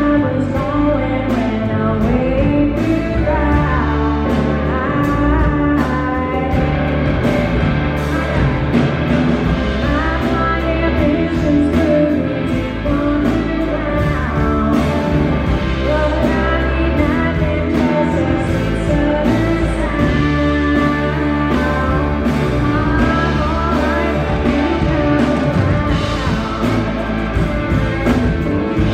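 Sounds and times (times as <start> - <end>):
electric guitar: 0.0 - 28.9
live blues-rock band playing: 0.0 - 28.9.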